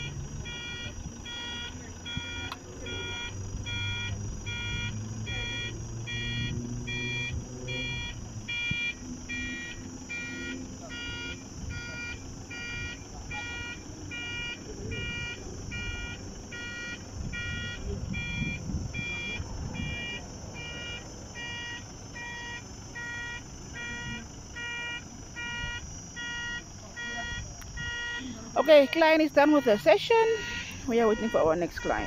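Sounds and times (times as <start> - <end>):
electronic warning beeper: 0.0 - 32.0.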